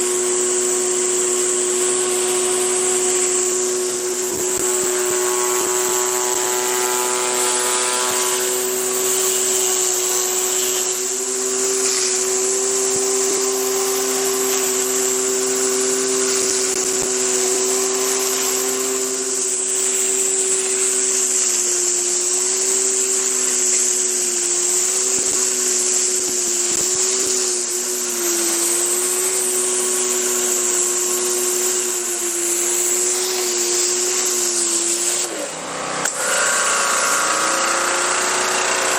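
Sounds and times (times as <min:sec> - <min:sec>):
high hiss of water spray: 0:00.0 - 0:38.9
pressure washer engine running: 0:00.0 - 0:38.9.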